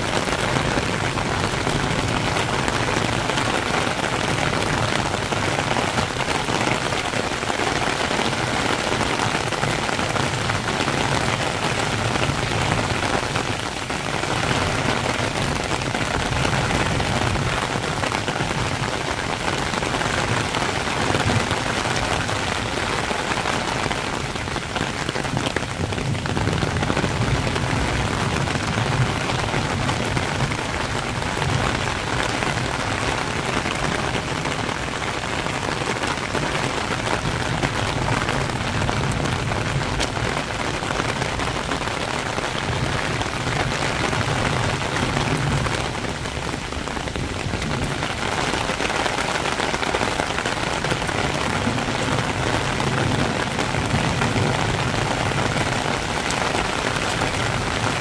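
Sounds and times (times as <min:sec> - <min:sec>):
heavy rain on path and foliage: 0:00.0 - 0:58.0.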